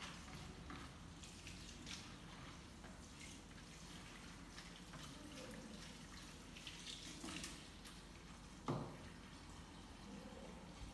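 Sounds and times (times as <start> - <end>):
water splashing: 0.0 - 10.9.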